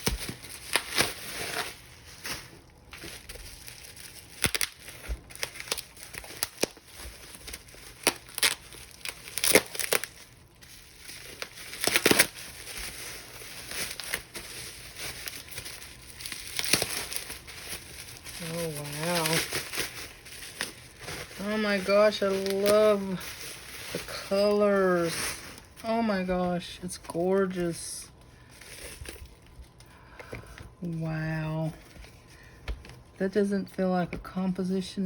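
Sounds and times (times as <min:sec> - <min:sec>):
wrapping paper crinkling: 0:00.0 - 0:33.9.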